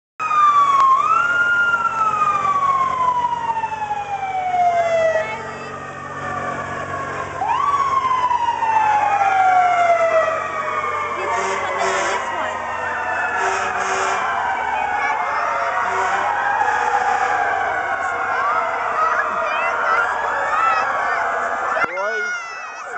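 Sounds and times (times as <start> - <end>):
fire engine siren wailing: 0.2 - 22.9.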